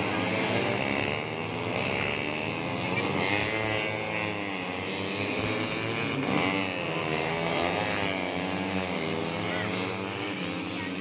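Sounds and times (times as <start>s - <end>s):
racing motorcycles at high revs: 0.0s - 11.0s.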